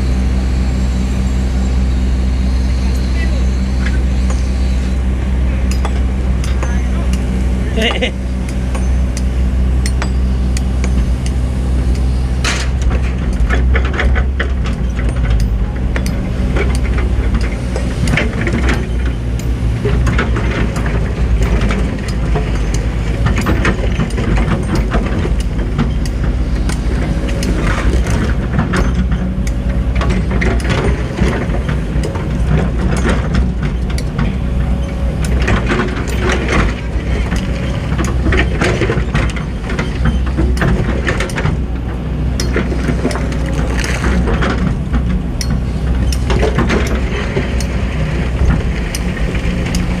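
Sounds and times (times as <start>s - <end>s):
excavator diesel engine running: 0.0s - 50.0s
machine knocks and clanks: 5.7s - 50.0s.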